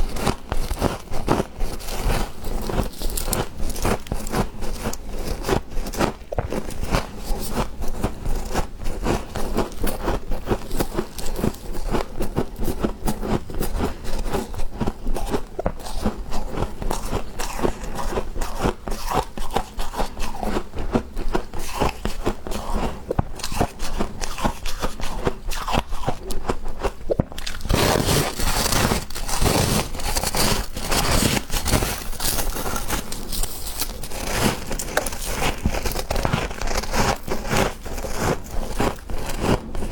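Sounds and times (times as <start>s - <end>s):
frost being chewed crunching: 0.0s - 39.9s.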